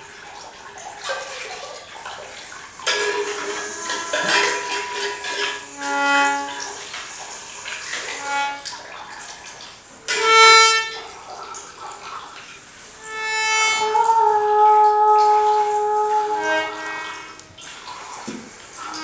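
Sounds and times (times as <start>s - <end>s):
faint water sounds: 0.0s - 19.0s
reed instrument notes: 2.8s - 19.0s.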